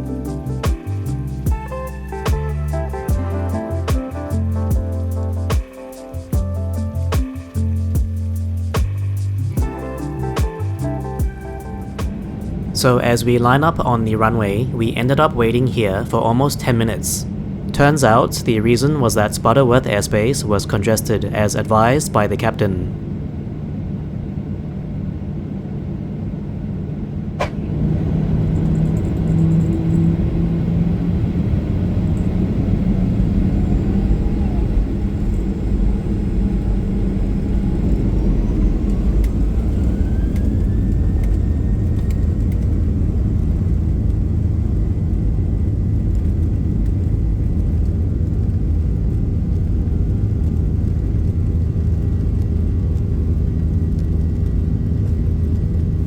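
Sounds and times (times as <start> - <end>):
jet engines spooling up: 0.0 - 56.0
low rumble: 0.0 - 56.0
rising engine whine: 0.0 - 56.0.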